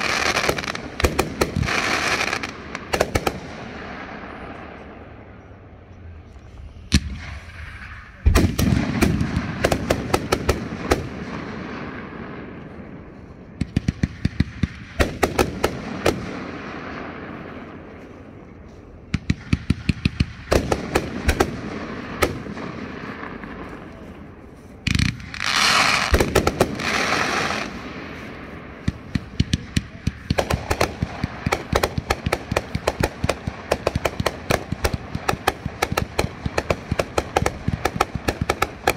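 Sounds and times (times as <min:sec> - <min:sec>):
fireworks bangs and crackles: 0:00.0 - 0:05.4, 0:06.6 - 0:38.9.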